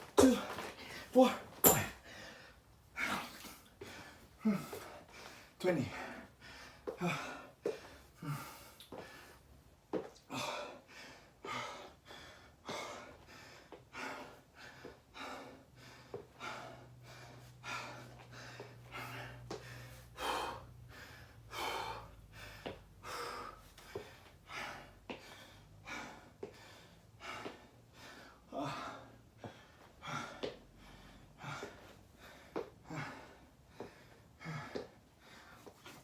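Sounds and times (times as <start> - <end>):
man breathing hard: 0.2 - 9.5, 10.2 - 36.0.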